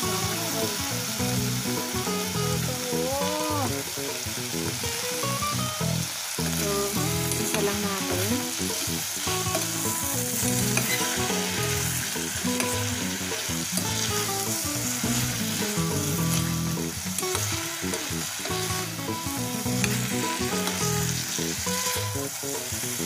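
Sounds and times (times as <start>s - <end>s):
vegetables sizzling in a pot: 0.0s - 23.0s.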